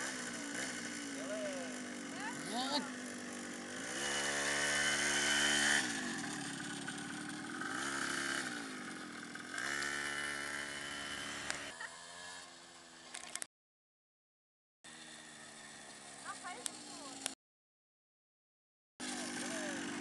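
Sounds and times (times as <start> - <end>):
minibike engine revving: 0.0 - 13.5, 14.9 - 17.4, 19.0 - 20.0.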